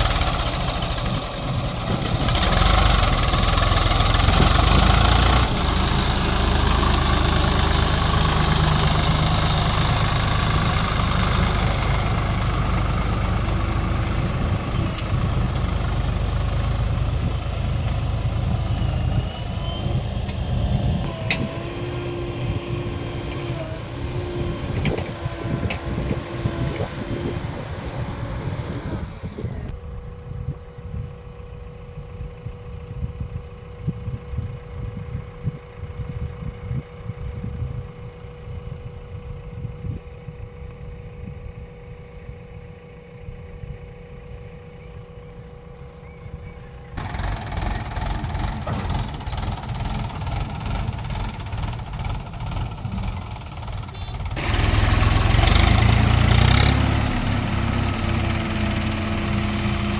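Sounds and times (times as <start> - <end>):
rough tractor and backhoe engines: 0.0 - 59.9
tractor diesel engine running: 0.0 - 59.9.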